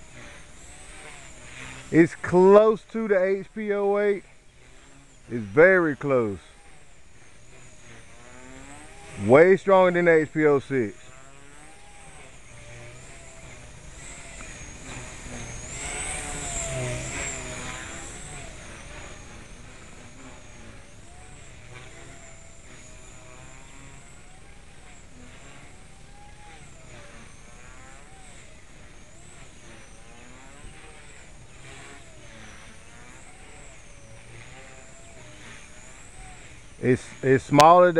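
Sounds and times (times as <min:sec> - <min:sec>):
model helicopter motor whine: 0:00.0 - 0:37.9.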